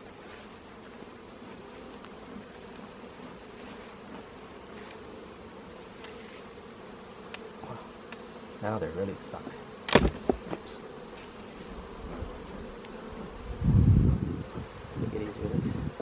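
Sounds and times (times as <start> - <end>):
bees humming: 0.0 - 16.0.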